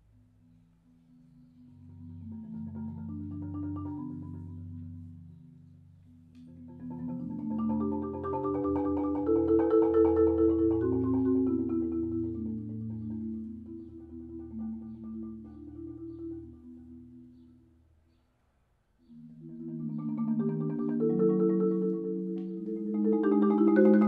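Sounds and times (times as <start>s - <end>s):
marimba rolling chords: 0.9s - 17.6s, 19.1s - 24.0s.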